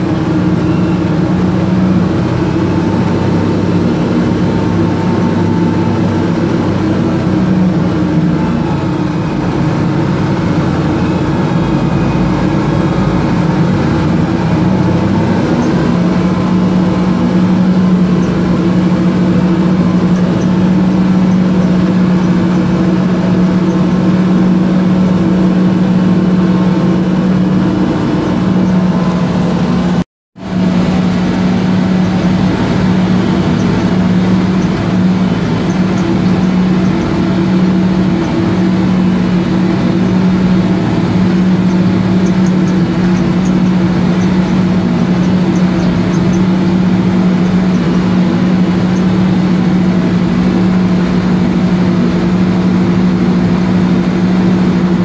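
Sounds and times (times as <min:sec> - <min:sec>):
diesel engine drone from cab: 0:00.0 - 0:55.0.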